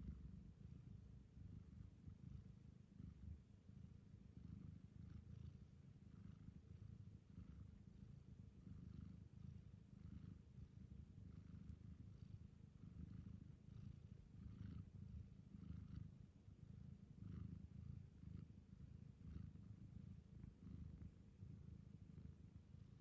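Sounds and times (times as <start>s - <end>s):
cat purring softly: 0.0s - 23.0s.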